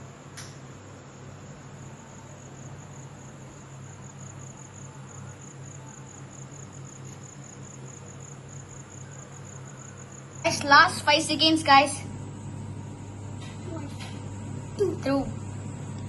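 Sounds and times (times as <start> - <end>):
cricket chirping: 0.0 - 14.8
microwave oven humming: 0.0 - 16.0.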